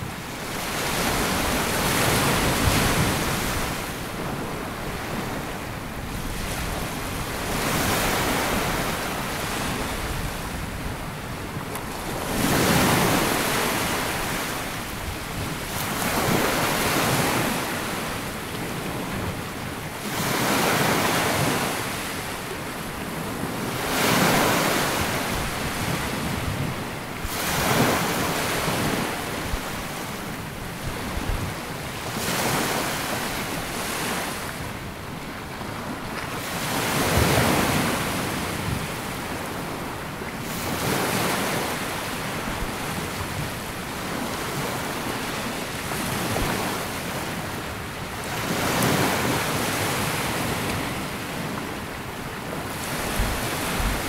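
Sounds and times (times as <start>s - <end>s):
small waves breaking on beach: 0.0s - 54.0s
wind on microphone: 0.0s - 54.0s.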